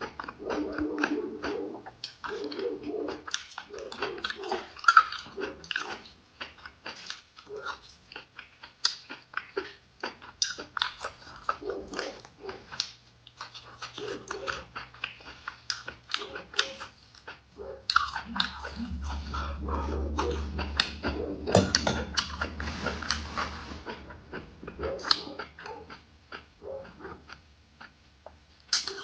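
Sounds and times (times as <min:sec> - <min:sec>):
person chewing and lip-smacking: 0:00.0 - 0:22.4, 0:23.9 - 0:29.0
crunching food: 0:00.0 - 0:29.0.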